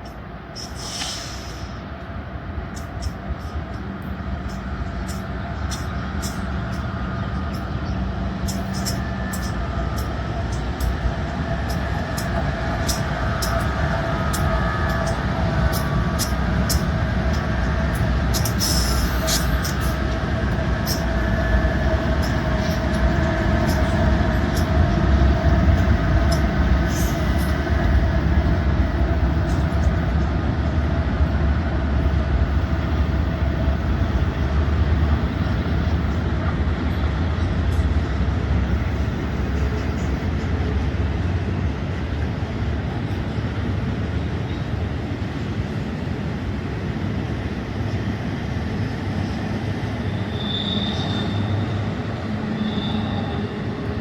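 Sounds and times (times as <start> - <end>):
diesel locomotives rumbling: 0.0 - 54.0.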